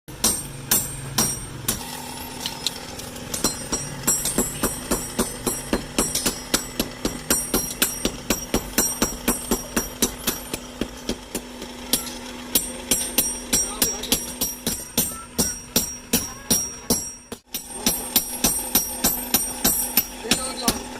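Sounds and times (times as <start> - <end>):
hammer striking steel on anvil: 0.1 - 20.9.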